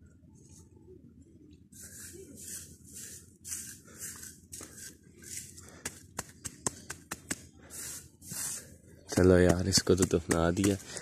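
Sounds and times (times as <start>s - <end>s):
trowel scraping soil: 1.8s - 11.0s.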